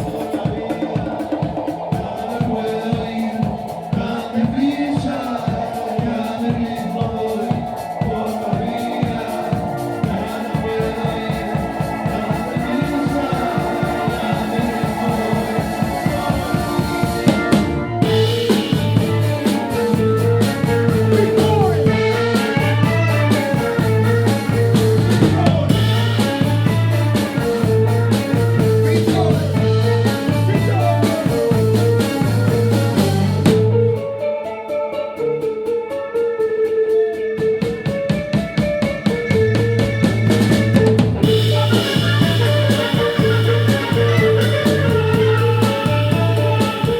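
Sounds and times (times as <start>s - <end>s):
pulsing bass line: 0.0s - 34.6s, 37.4s - 46.9s
drum kit fast beat: 0.0s - 46.9s
live band playing groove: 0.0s - 46.9s
organ: 0.0s - 46.9s.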